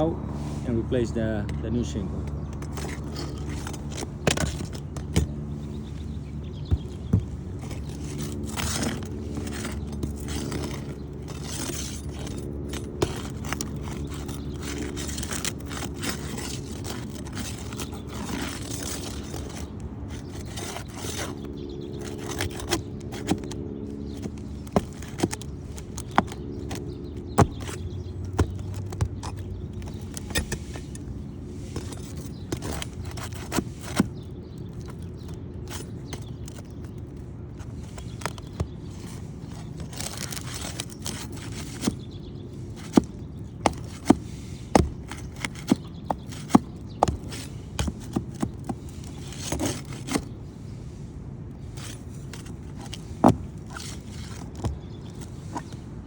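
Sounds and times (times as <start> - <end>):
low mechanical hum: 0.0 - 56.0
roof shingles scraping: 1.8 - 56.0.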